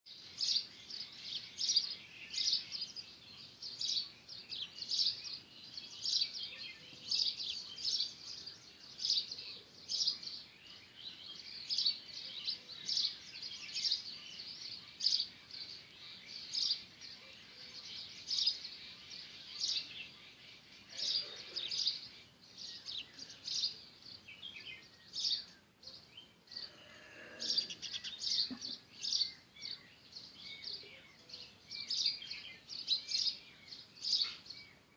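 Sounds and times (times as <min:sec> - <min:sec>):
sparrows chirping: 0:00.1 - 0:34.9.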